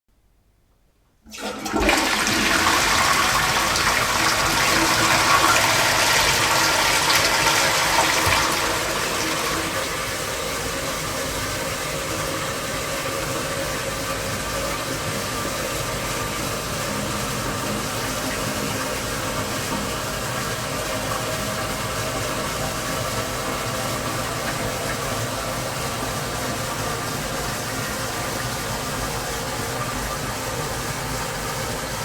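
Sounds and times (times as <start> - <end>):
toilet flushing: 1.3 - 32.0.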